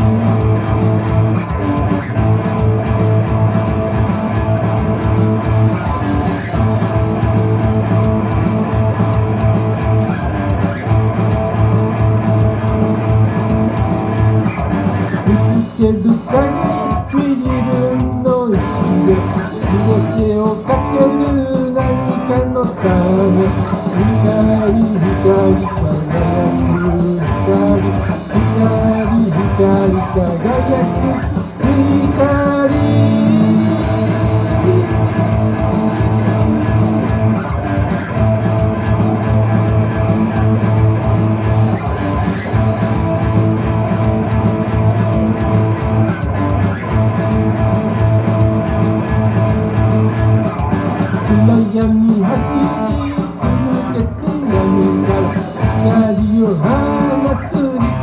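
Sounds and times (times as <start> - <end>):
electric guitar rock playing: 0.0 - 58.0.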